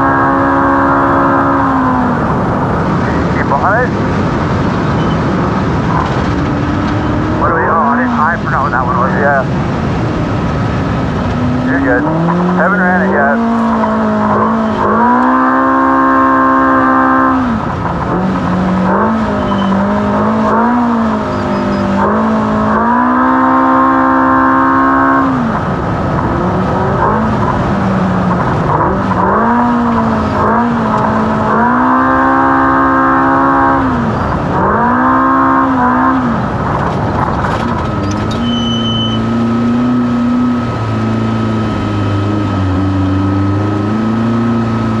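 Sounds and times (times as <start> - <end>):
race car engine revving: 0.0 - 45.0.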